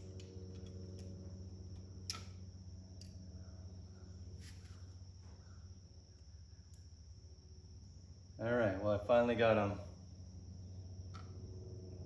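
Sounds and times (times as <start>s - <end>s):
faint high whine: 0.0s - 12.0s
low hum: 0.0s - 12.0s.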